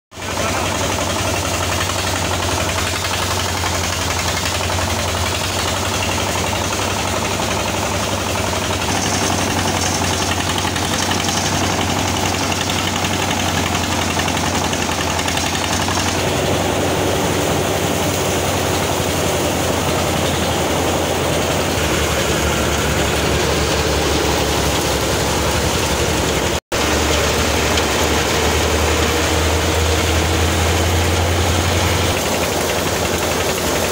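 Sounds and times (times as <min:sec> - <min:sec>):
threshing machine running: 0:00.1 - 0:33.9.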